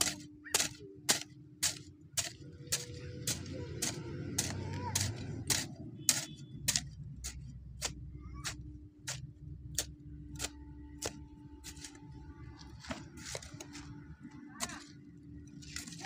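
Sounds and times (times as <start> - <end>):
low rumble: 2.0 - 16.0.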